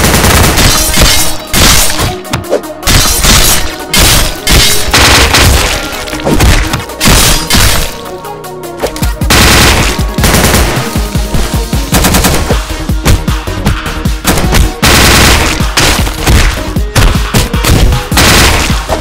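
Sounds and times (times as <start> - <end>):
rapid cartoon gunshots: 0.0 - 2.2, 2.8 - 8.0, 9.3 - 11.2, 11.9 - 13.4, 14.2 - 19.0
loud background music: 0.0 - 19.0.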